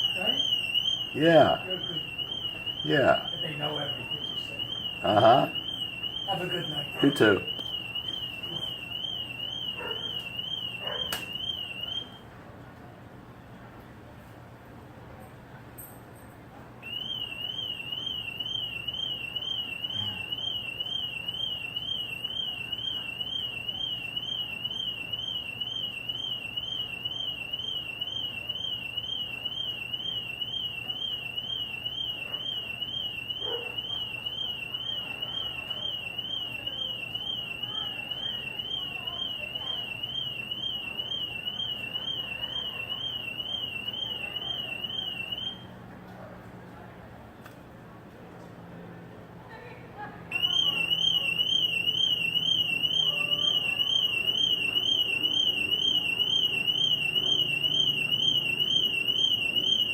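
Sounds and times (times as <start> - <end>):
car alarm siren warbling: 0.0 - 12.2, 16.8 - 45.7, 50.3 - 59.9.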